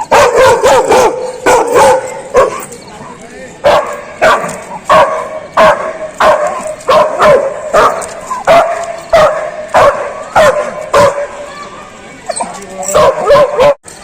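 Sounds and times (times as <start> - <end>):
dog barking loudly: 0.0 - 2.7, 3.6 - 11.4, 13.0 - 13.8.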